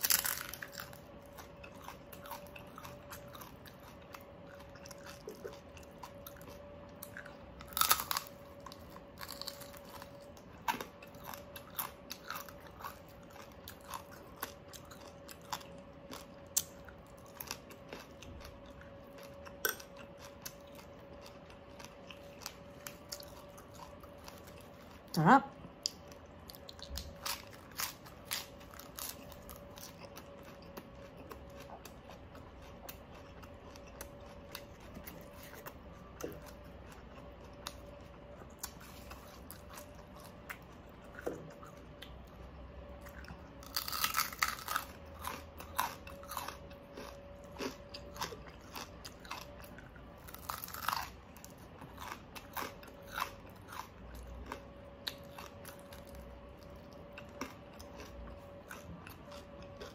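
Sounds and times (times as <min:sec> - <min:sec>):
chewing and crunching food: 0:00.0 - 0:59.9
faint steady hum: 0:00.0 - 0:59.9.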